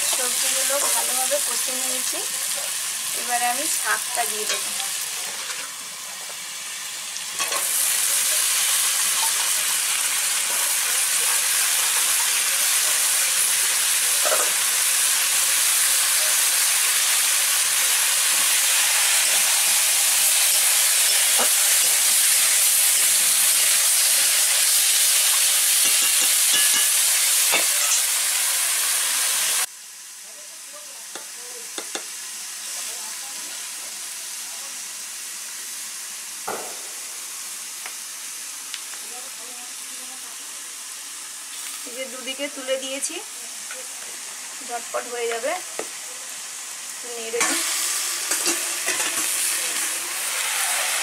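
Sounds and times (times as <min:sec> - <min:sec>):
greens sizzling in hot oil: 0:00.0 - 0:51.0.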